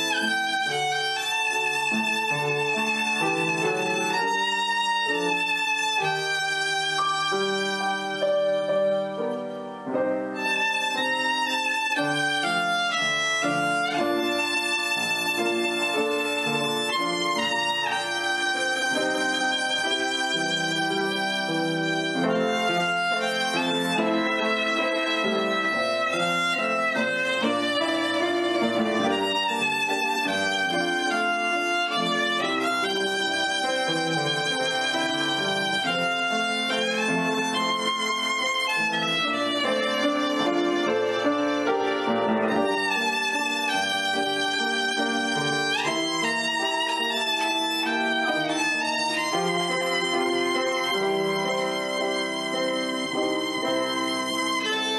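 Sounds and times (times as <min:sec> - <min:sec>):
violin background music: 0:00.0 - 0:54.9.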